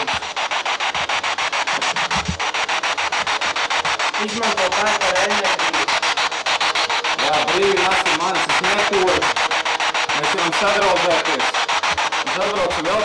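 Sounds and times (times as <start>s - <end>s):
chopped radio static: 0.0s - 13.0s.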